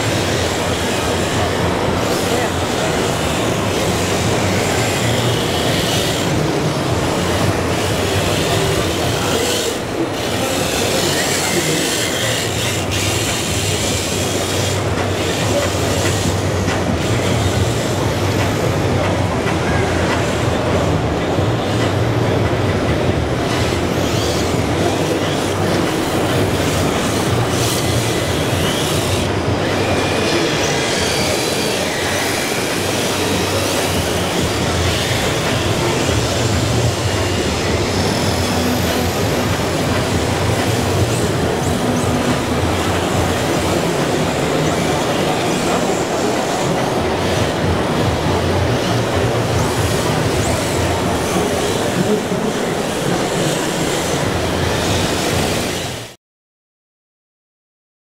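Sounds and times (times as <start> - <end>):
crowd murmur: 0.0 - 56.2
hall noise: 0.0 - 56.2.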